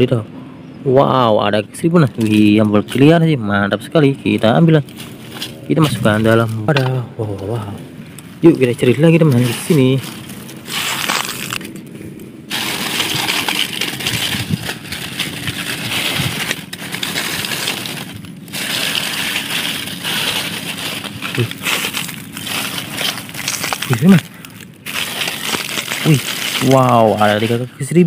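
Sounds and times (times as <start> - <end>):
dry leaves crackling and rustling: 1.5 - 28.0.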